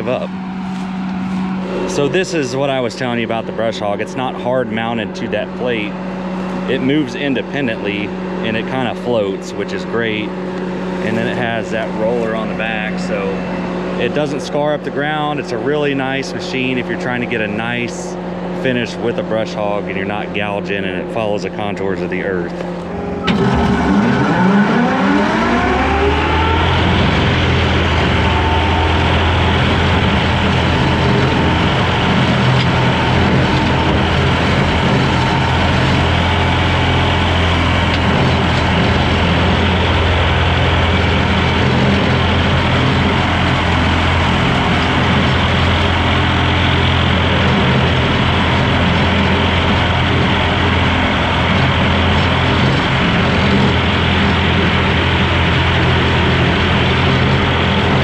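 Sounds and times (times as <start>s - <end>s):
skid steer engine and mower: 0.0s - 58.0s.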